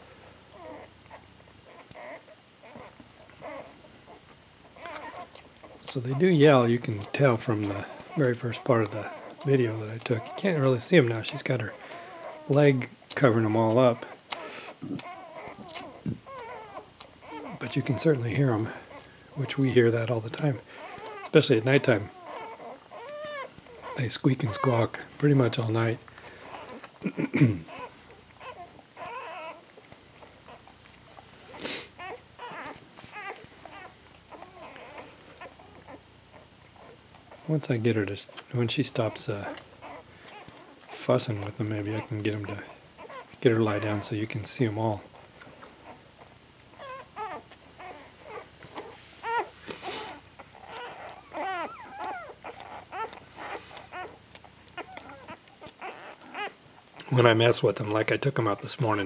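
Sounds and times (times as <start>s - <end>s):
puppies crying and squeaking: 0.0s - 59.0s.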